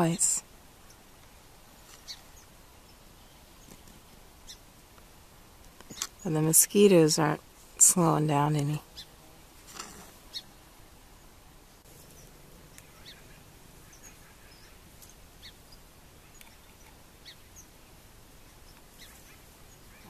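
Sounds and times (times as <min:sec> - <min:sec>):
soft steady hiss: 0:00.0 - 0:20.0.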